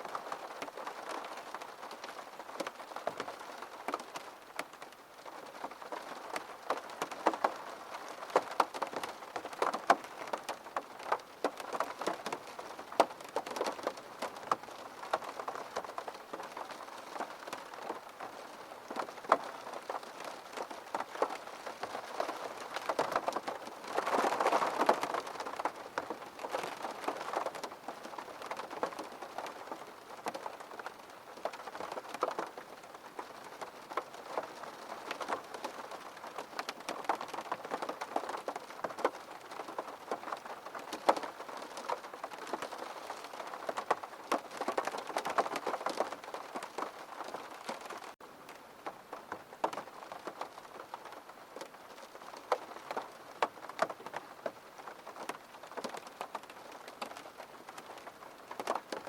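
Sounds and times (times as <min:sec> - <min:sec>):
rain on window pane: 0:00.0 - 0:59.0.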